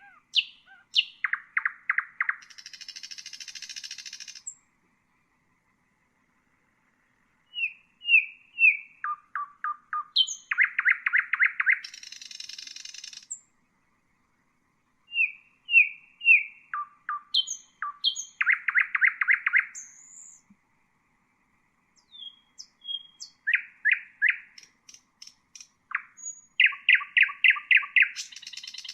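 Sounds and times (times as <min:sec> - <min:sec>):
nightingale singing: 0:00.0 - 0:05.8, 0:06.9 - 0:13.6, 0:15.0 - 0:20.6, 0:21.9 - 0:28.9.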